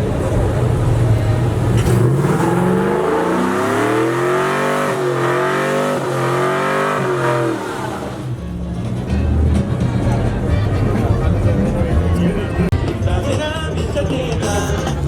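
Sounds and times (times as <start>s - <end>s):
truck engine revving hard: 0.0s - 12.7s.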